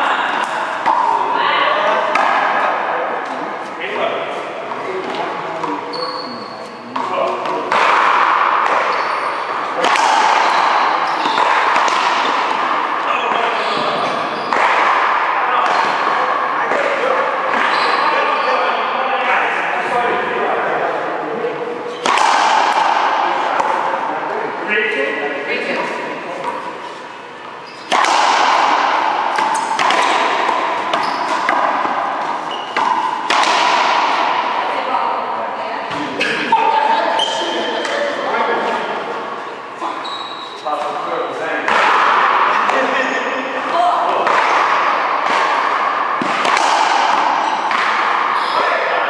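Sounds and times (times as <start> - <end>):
racquetball hitting racquet and wall: 0.0 - 49.0.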